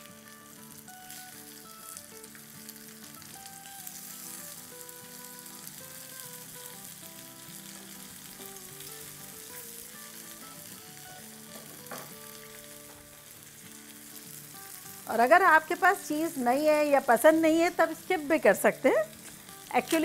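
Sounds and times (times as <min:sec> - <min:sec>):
sausage sizzling in frying pan: 0:00.0 - 0:20.0
soft background music: 0:00.0 - 0:20.0.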